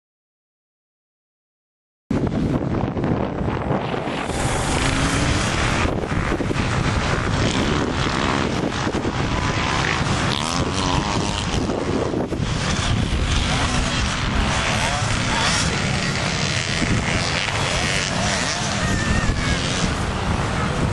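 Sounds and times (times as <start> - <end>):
wind noise on microphone: 2.1 - 20.9
motorbike running: 2.2 - 20.9.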